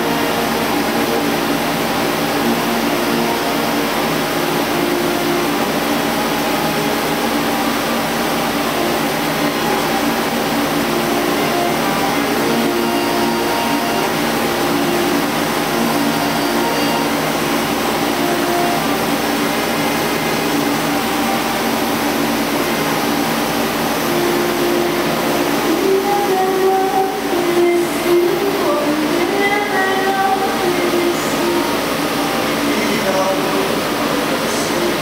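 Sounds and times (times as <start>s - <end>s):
coolant hissing: 0.0s - 35.0s
lathe spindle tones: 0.0s - 35.0s.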